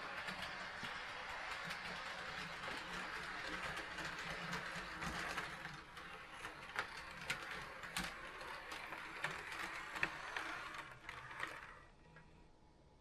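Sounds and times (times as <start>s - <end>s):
wheels clicking over rail joints: 0.0s - 11.8s
model train motor whirring: 0.0s - 11.9s.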